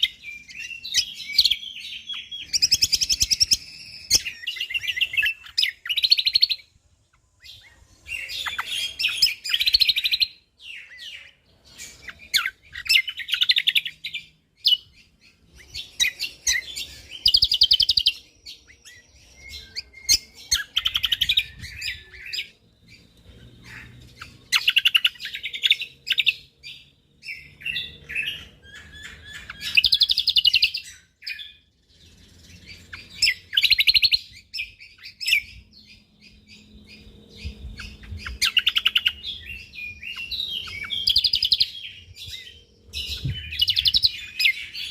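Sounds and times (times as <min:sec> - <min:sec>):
songbird rapid chirping: 0:00.0 - 0:44.9.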